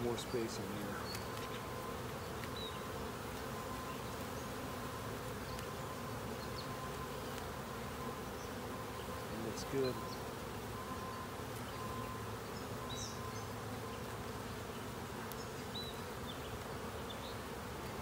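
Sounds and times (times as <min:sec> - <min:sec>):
bees humming drone: 0:00.0 - 0:18.0.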